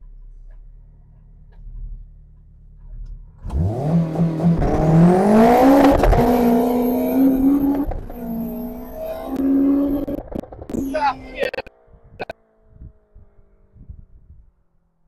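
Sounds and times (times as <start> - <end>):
car engine accelerating hard: 0.3 - 14.8.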